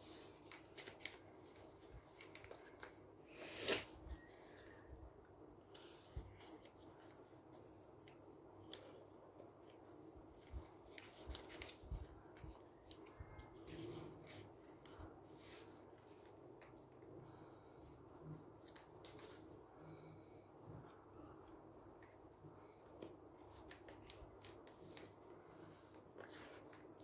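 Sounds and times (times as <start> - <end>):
paper crinkling and rustling: 0.0 - 3.1, 5.6 - 17.0, 17.7 - 19.6, 21.2 - 27.0.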